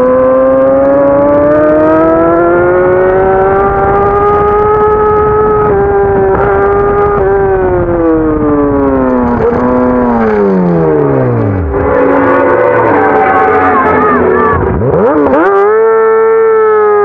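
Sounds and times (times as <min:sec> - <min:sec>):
motorcycle engine slowing: 0:00.0 - 0:17.0.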